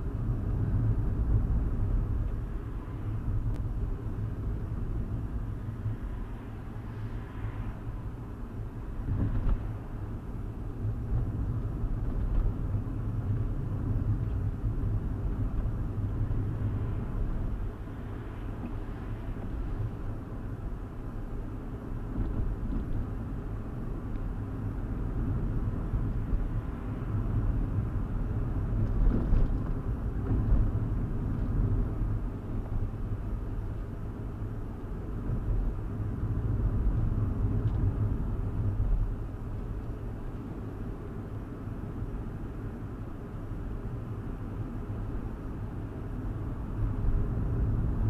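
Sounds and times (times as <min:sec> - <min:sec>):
car cabin road and engine rumble: 0:00.0 - 0:48.0.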